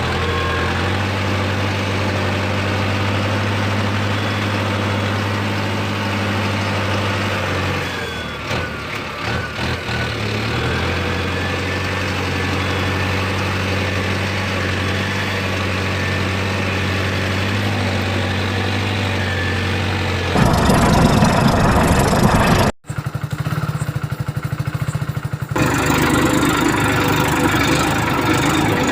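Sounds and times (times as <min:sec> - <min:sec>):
loud rough engine pulsing: 0:00.0 - 0:28.9
tractor engine idling: 0:00.0 - 0:28.9.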